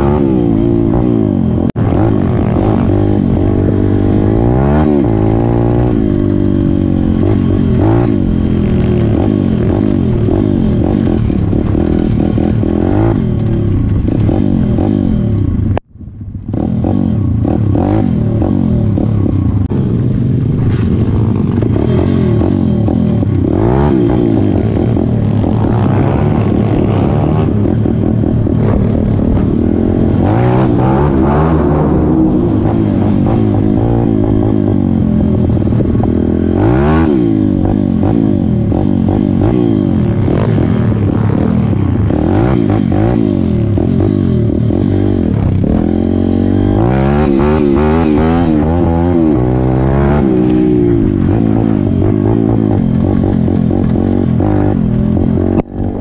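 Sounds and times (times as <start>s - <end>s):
pit bike engine revving: 0.0s - 15.8s, 16.4s - 56.0s.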